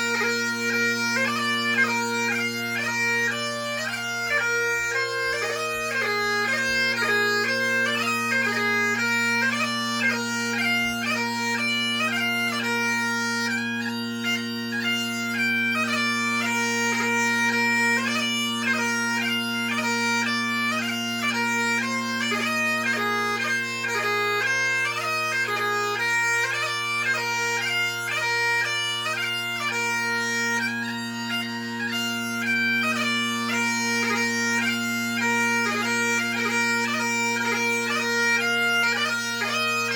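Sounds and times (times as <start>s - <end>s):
bagpipe playing: 0.0s - 39.9s.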